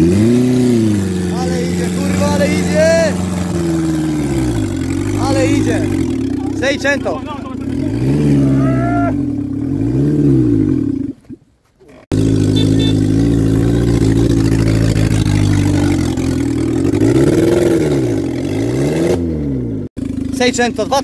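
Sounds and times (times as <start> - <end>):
small petrol engine revving: 0.0 - 21.0.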